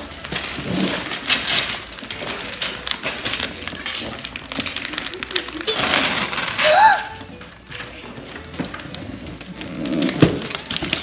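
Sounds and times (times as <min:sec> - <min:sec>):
wrapping paper tearing and crinkling: 0:00.0 - 0:11.0.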